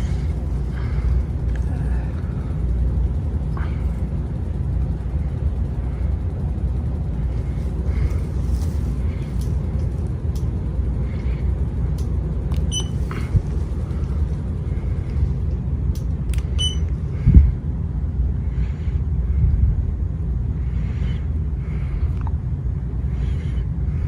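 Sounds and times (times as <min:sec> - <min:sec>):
ceiling fan low rumble: 0:00.0 - 0:24.0.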